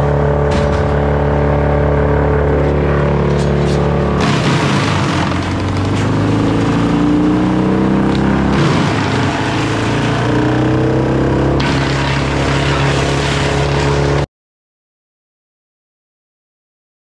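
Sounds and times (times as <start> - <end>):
wood chipper engine: 0.0 - 14.3.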